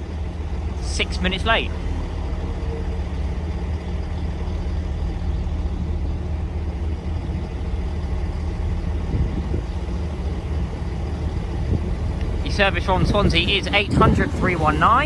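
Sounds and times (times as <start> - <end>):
train arriving low rumble: 0.0 - 15.0.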